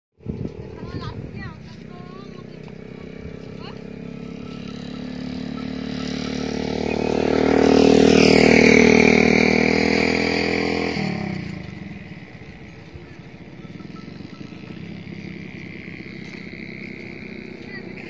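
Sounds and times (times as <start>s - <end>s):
vehicle engine passing by: 0.2s - 18.0s.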